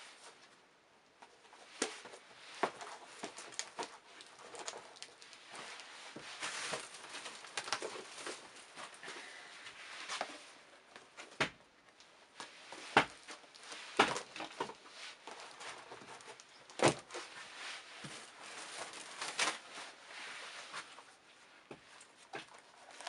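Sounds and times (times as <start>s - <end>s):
soft rustling: 1.3s - 11.2s, 12.0s - 23.0s.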